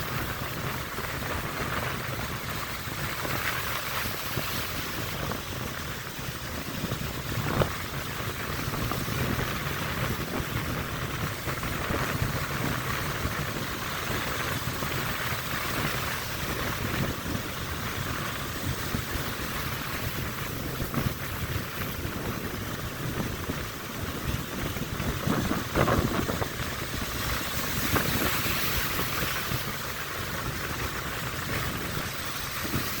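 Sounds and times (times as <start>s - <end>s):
breaking surf: 0.0s - 33.0s
wind buffeting microphone: 0.0s - 33.0s.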